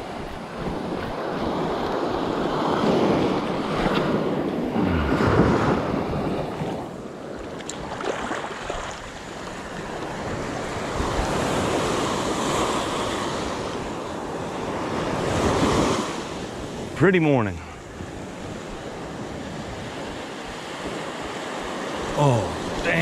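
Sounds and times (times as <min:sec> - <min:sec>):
surf washing up sand: 0:00.0 - 0:23.0.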